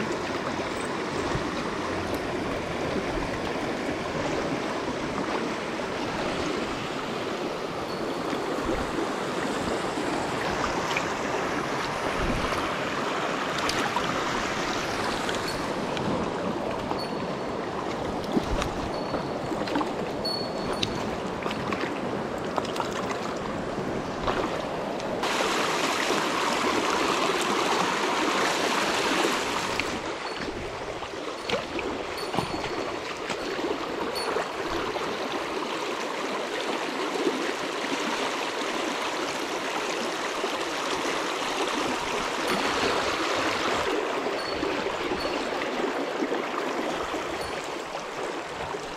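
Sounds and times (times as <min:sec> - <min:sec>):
stream rushing over stones: 0:00.0 - 0:48.9.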